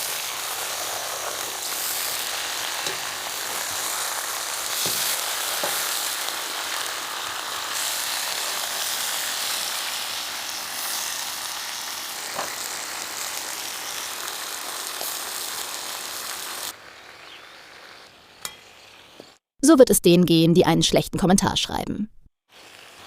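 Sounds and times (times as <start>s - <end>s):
food sizzling in hot fat: 0.0s - 19.4s, 22.5s - 23.0s.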